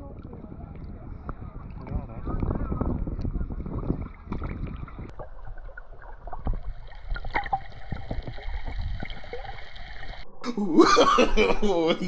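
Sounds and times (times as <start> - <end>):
water splashing: 0.0 - 10.2.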